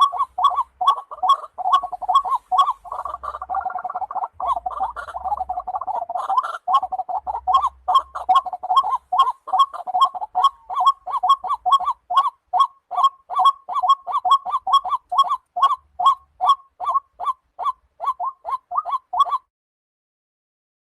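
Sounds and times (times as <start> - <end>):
bird calling: 0.0 - 19.5.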